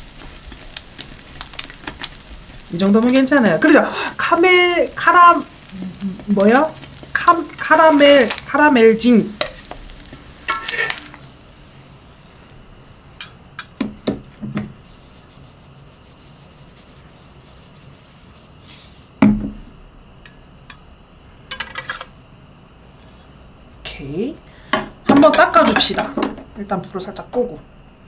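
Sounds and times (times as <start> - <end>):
faint sizzle: 0.0 - 28.0.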